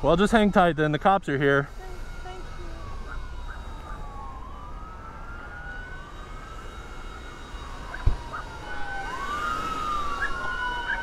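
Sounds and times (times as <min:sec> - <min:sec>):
emergency sirens wailing: 0:00.0 - 0:11.0.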